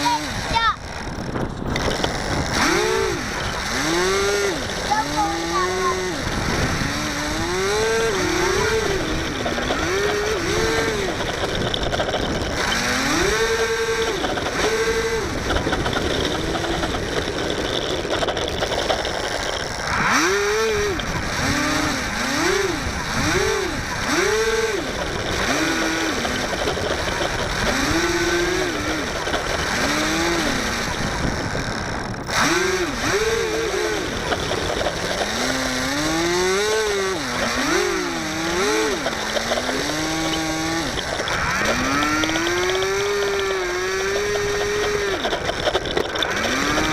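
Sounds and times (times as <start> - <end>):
electric motor and propeller whine: 0.0 - 46.9
wind noise: 0.0 - 46.9.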